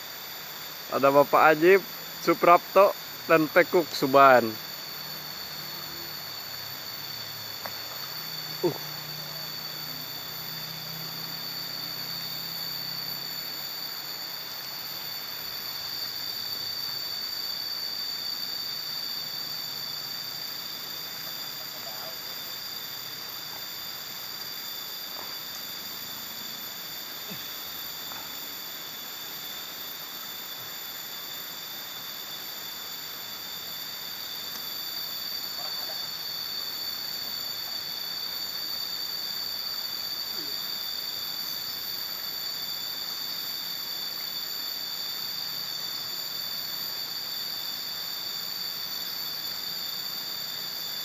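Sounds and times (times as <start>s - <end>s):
hiss: 0.0s - 51.0s
insect chorus: 0.0s - 51.0s.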